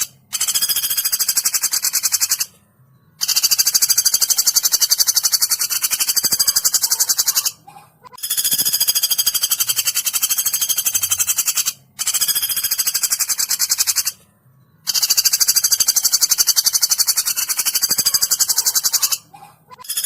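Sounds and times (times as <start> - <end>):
woodpecker rattling trill: 0.0 - 20.0.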